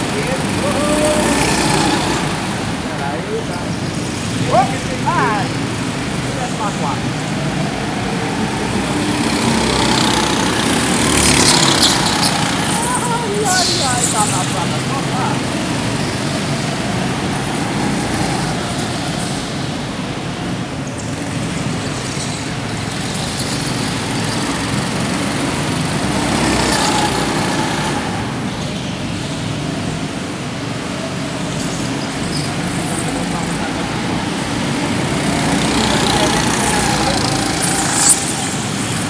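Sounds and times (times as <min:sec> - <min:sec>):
go-kart engines droning: 0:00.0 - 0:39.0.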